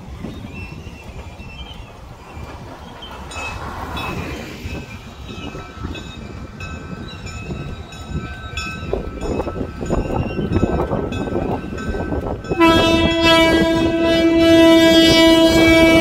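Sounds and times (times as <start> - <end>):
freight train rumbling: 0.0 - 16.0
wheels squealing on rails: 0.0 - 16.0.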